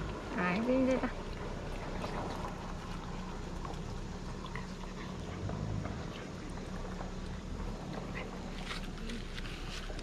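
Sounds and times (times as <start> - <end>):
steady low hum: 0.0 - 10.0
dog chewing and licking: 1.3 - 10.0.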